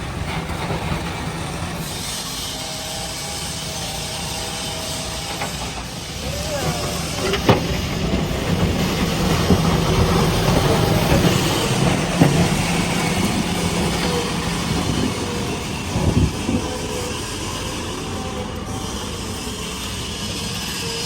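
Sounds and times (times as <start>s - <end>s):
diesel engine running: 2.7s - 21.0s.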